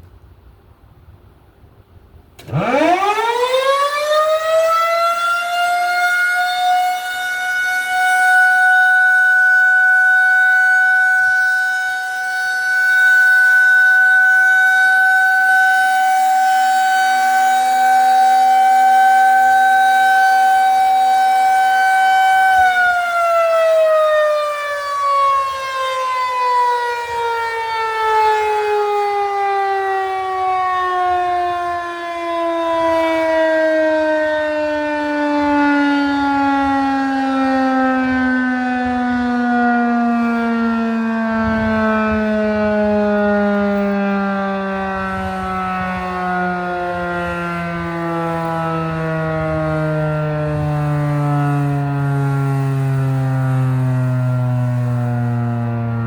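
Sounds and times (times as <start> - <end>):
civil defense siren winding: 2.2 - 56.0.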